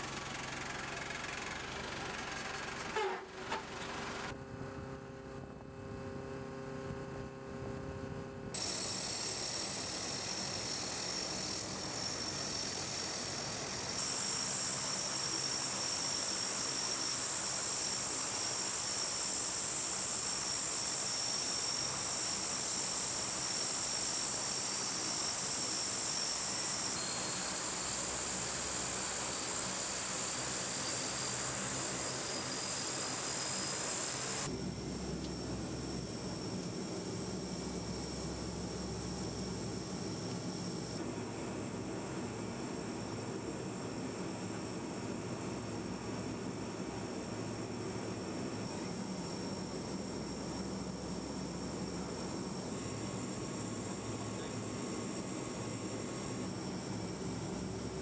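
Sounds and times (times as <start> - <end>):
turboprop engines running: 0.0 - 58.0
high turbine whine: 3.8 - 58.0.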